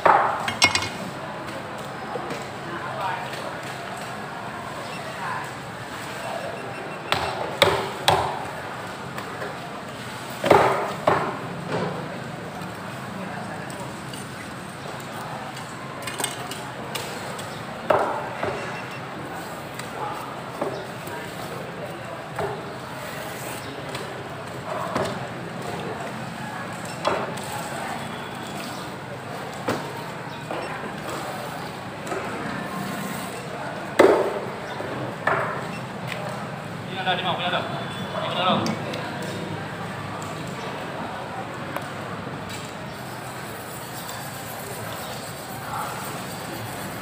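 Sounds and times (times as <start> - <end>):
market clatter: 0.0 - 47.0
market voices: 0.0 - 47.0.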